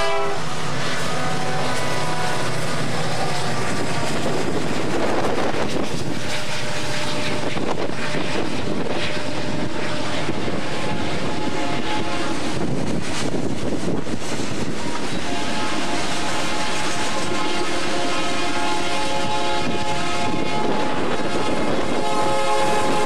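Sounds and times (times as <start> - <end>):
freight cars rumbling over rails: 0.0 - 23.0
train horn: 0.0 - 23.0.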